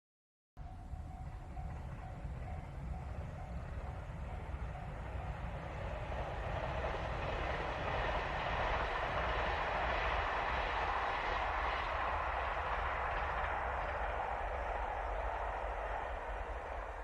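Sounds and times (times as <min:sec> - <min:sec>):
diesel train running on rails: 0:00.6 - 0:17.0.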